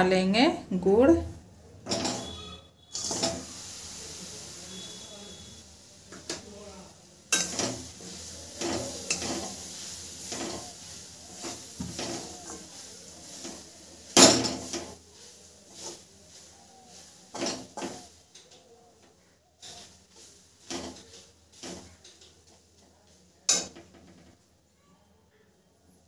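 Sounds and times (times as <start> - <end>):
metal spatula scraping a pan: 1.8 - 23.9.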